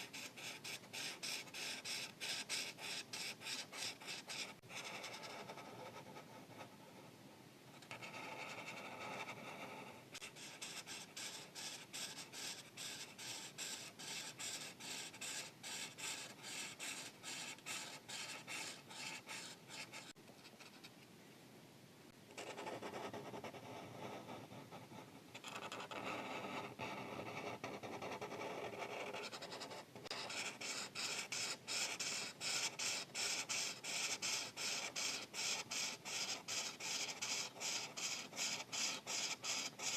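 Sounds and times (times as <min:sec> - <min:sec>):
markers scratching on paper: 0:00.0 - 0:06.8, 0:07.8 - 0:20.9, 0:22.4 - 0:39.9.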